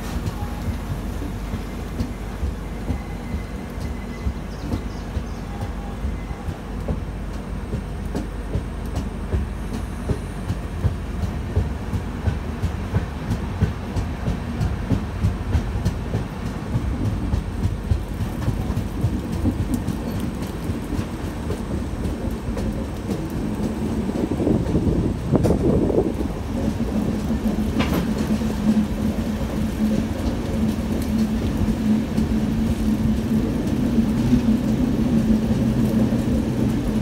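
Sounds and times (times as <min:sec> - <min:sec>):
passenger train rumbling: 0:00.0 - 0:37.0
train wheels clicking over rail joints: 0:00.0 - 0:37.0.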